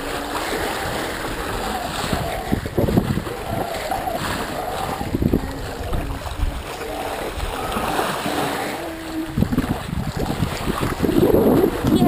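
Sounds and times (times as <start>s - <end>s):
bow wave rushing along hull: 0.0s - 12.0s.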